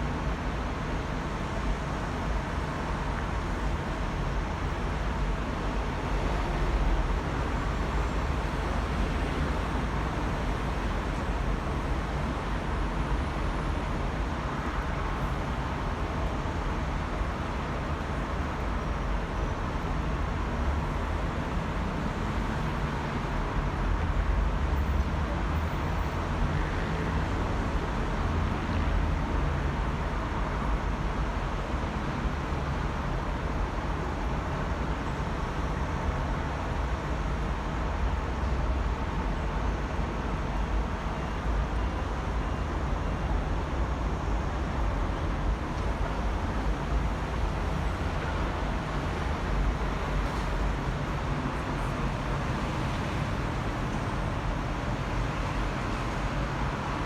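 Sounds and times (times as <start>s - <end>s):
road vehicle rumble: 0.0s - 57.0s.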